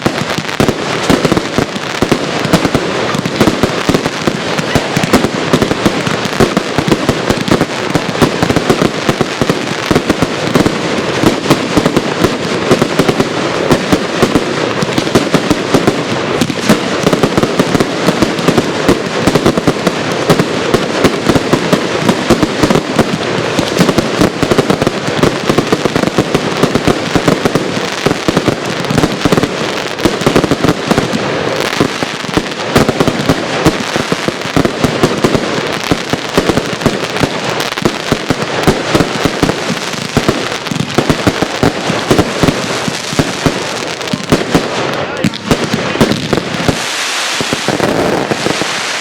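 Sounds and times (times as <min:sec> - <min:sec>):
fireworks rapid shots and cracks: 0:00.0 - 0:49.0.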